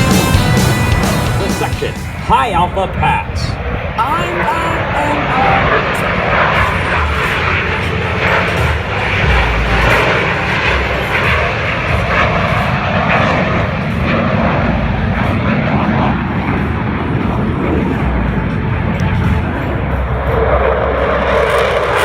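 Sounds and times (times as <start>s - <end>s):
jet aircraft engine noise: 0.0s - 22.0s.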